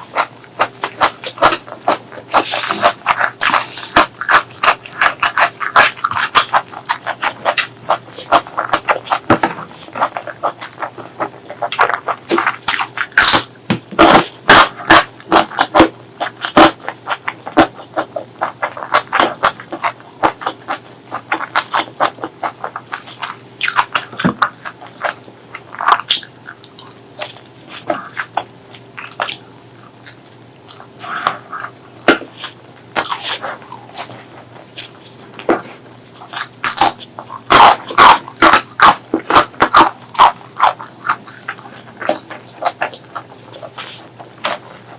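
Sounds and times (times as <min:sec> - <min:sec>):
wet chewing and lip-smacking: 0:00.0 - 0:44.9.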